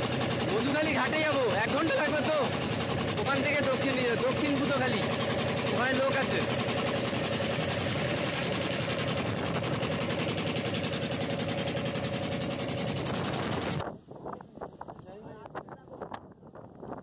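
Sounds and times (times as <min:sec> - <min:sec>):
boat engine chugging: 0:00.0 - 0:13.8.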